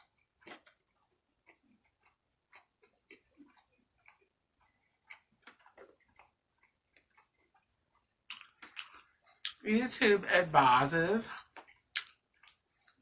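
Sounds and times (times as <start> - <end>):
person chewing with wet mouth clicks: 0.0 - 9.6, 11.6 - 13.0.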